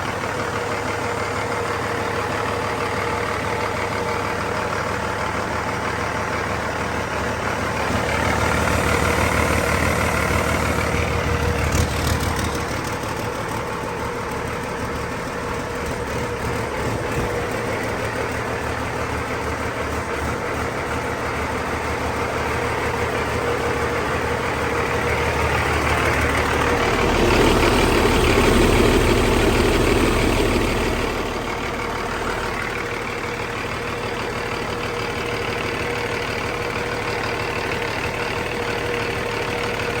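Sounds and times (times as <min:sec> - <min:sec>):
diesel engine idling and revving: 0:00.0 - 0:40.0.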